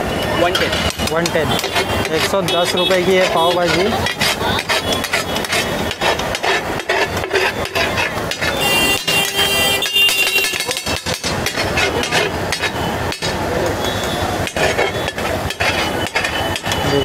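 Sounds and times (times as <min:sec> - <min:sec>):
metal spatula clanging on griddle: 0:00.5 - 0:13.4, 0:14.4 - 0:17.0.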